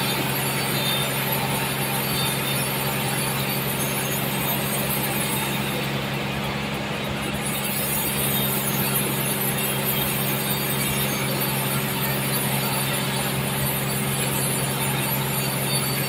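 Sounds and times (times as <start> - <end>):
band saw cutting log: 0.0 - 16.0.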